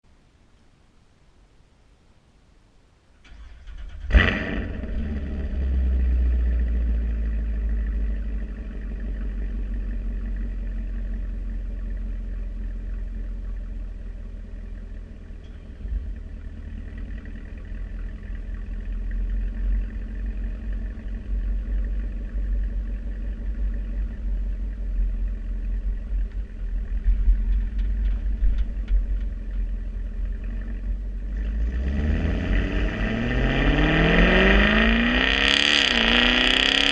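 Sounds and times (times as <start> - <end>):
car engine starting and idling: 3.2 - 36.9.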